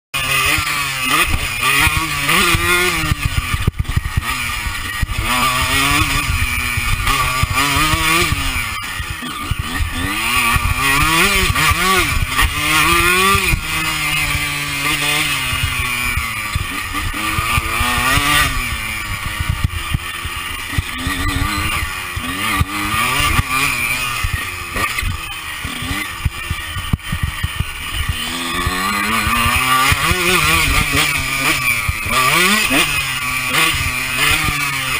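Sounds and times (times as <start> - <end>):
motorbike engine revving: 0.2 - 34.9.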